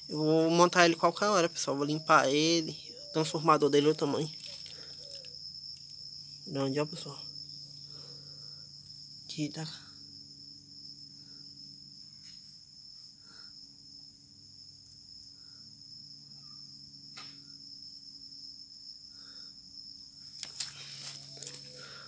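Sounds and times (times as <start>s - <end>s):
night insects trilling: 0.0s - 22.0s.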